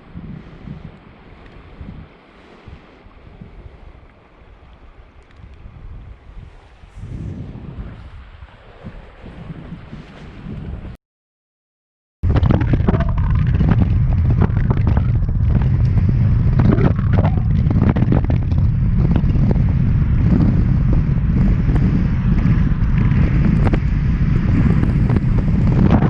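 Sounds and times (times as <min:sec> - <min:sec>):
strong wind buffeting microphone: 0:00.0 - 0:11.0, 0:12.2 - 0:26.0.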